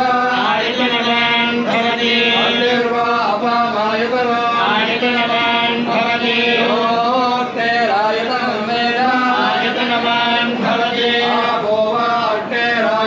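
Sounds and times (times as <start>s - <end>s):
men chanting: 0.0s - 13.0s.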